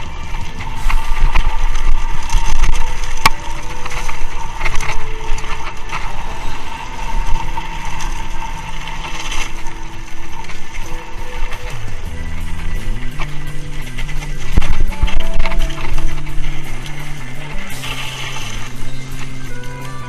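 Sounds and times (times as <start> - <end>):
bike clattering and rattling: 0.0 - 20.0
wind rumble on microphone: 0.0 - 20.0.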